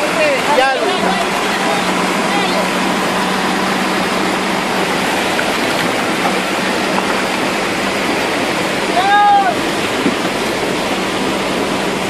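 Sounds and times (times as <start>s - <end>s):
floodwater rushing over rocks: 0.0s - 12.0s
vehicle engine running: 0.0s - 12.0s.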